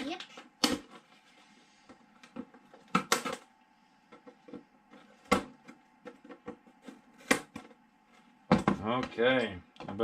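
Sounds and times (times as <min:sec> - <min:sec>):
knocks and clicks of handling packaging: 0:00.0 - 0:10.0.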